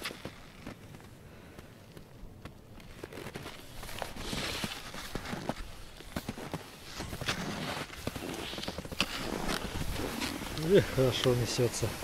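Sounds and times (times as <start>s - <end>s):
skis scraping over crusted snow: 0.0s - 1.2s, 1.9s - 12.0s.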